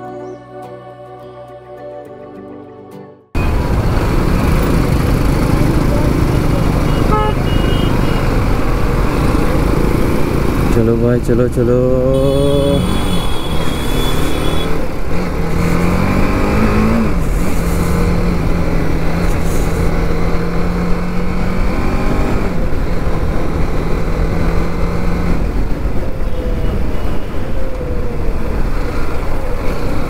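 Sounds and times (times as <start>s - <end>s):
motorcycle engine accelerating: 3.4s - 11.2s, 11.9s - 30.0s
wind and road noise: 3.4s - 30.0s.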